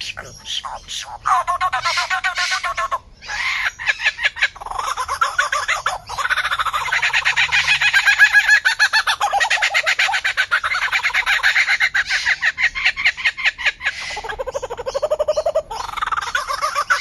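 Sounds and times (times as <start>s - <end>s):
bird chattering: 0.0s - 17.0s.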